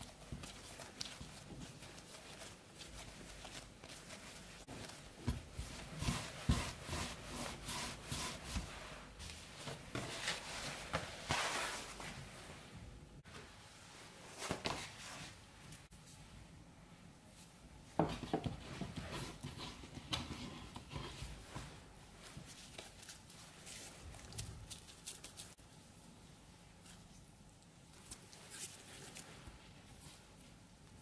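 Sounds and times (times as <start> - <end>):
hands kneading dough: 0.0 - 16.4, 17.2 - 31.0.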